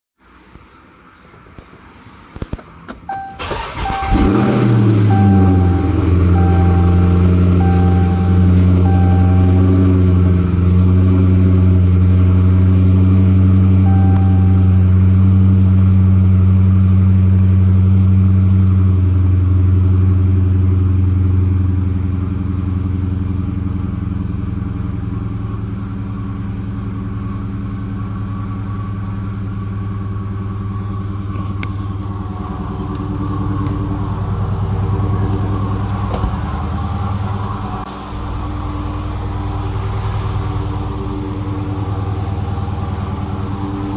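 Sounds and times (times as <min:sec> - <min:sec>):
car engine idling: 0:03.1 - 0:43.9.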